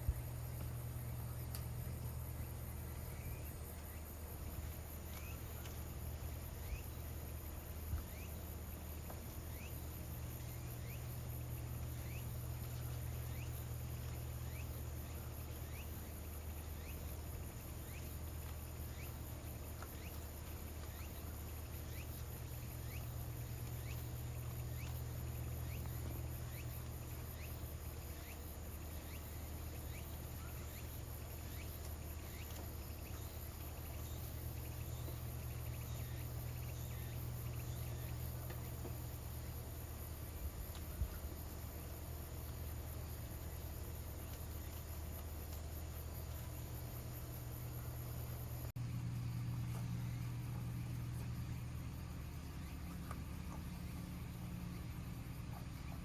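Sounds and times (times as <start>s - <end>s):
insects trilling: 0.0s - 56.0s
low steady hum: 0.0s - 56.0s.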